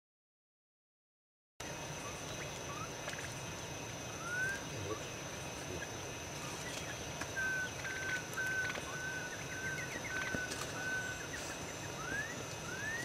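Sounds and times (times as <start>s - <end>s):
high insect drone: 1.6s - 13.0s.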